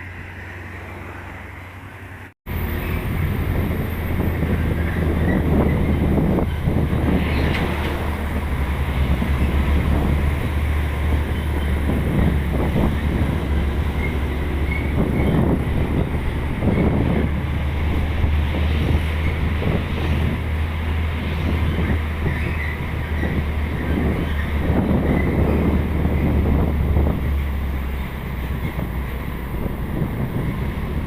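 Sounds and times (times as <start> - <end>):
heavy truck engine drone: 0.0 - 31.0
rumbling road noise: 0.0 - 31.0.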